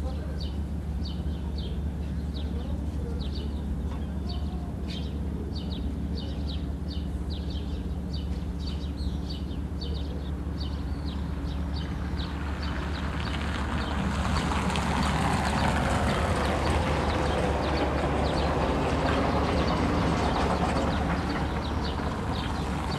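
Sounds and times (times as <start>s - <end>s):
birds chirping: 0.0s - 22.9s
low machinery hum: 0.0s - 22.9s.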